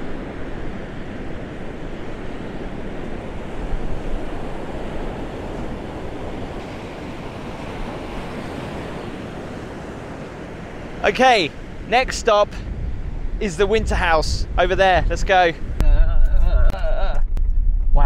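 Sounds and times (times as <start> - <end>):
ocean surf breaking on a beach: 0.0 - 15.8.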